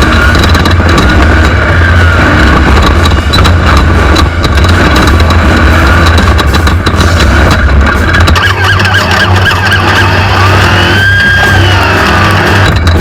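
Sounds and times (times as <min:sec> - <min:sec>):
road noise: 0:00.0 - 0:13.0
truck engine running hard: 0:00.0 - 0:13.0.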